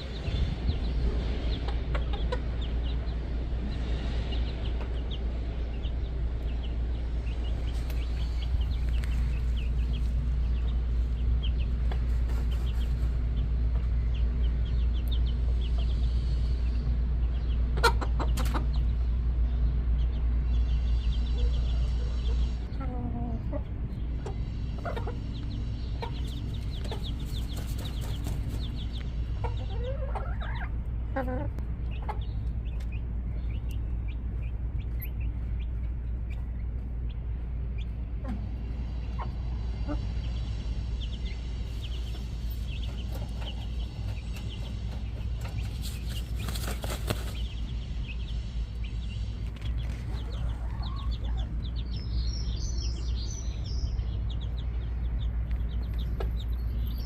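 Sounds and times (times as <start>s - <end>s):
chickens clucking: 0.0s - 57.0s
steady low rumble: 0.0s - 57.0s.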